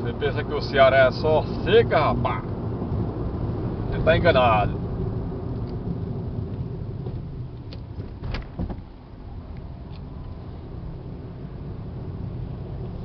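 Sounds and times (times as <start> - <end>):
road noise inside car: 0.0 - 13.0.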